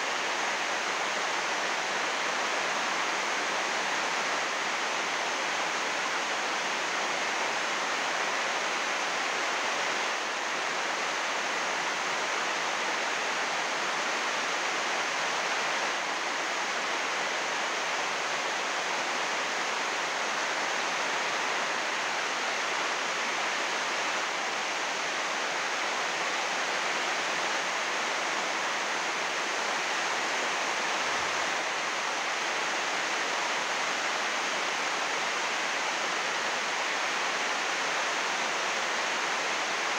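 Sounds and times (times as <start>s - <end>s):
heavy rain on plastic roof: 0.0s - 39.9s.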